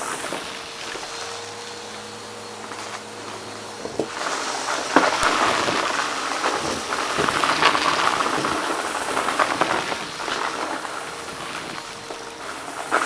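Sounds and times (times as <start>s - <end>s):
dry granules crackling and rattling: 0.0s - 13.0s.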